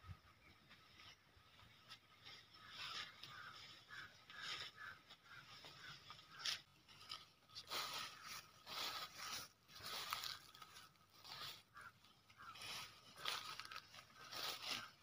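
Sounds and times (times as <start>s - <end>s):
crunching and rustling of grass: 0.0s - 15.0s.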